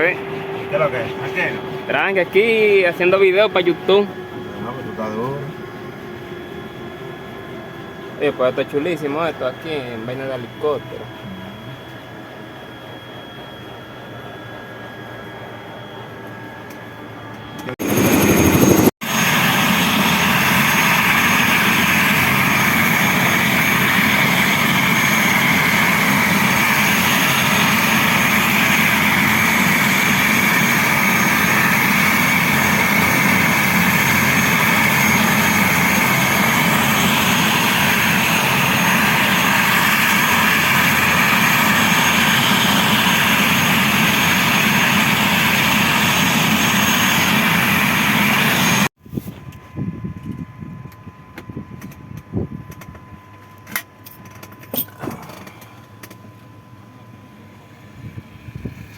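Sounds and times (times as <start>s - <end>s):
helicopter engine whine and rotor: 0.0s - 48.9s.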